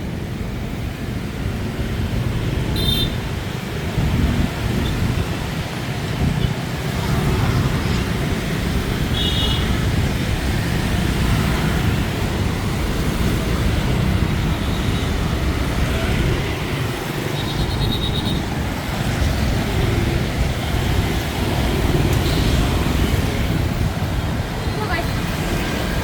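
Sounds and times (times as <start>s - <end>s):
motorbike street traffic: 0.0s - 26.0s.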